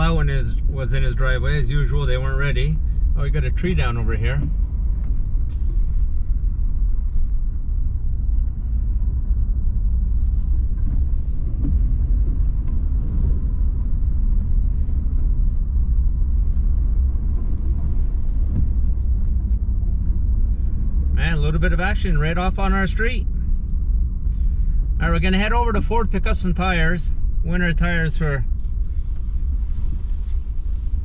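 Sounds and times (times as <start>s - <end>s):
vehicle interior engine rumble: 0.0s - 31.0s.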